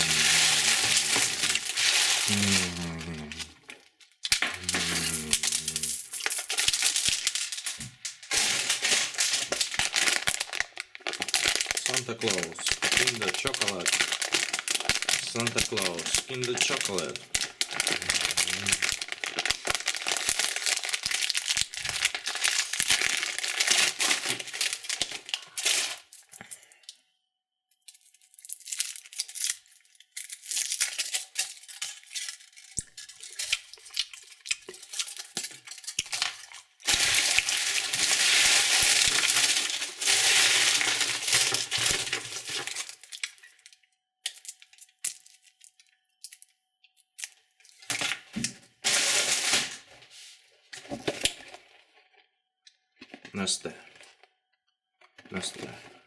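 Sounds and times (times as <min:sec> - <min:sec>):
candy wrappers crinkling: 0:00.0 - 0:27.0, 0:27.8 - 0:49.9.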